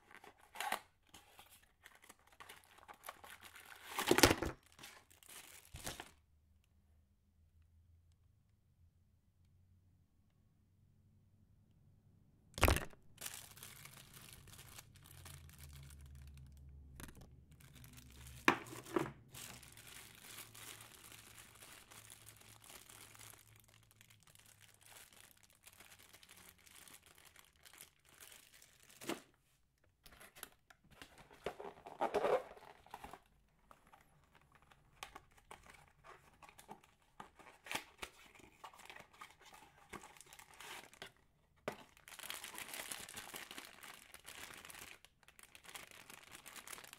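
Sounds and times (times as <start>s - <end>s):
packaging crinkling and tearing: 0.0s - 6.2s, 12.6s - 29.3s, 30.1s - 46.9s.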